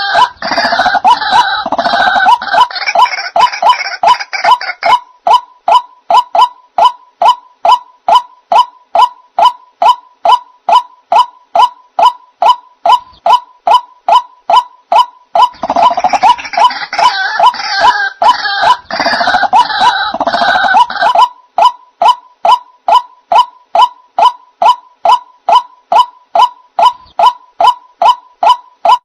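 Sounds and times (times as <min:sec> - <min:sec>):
waterhen calls: 0:00.0 - 0:29.0.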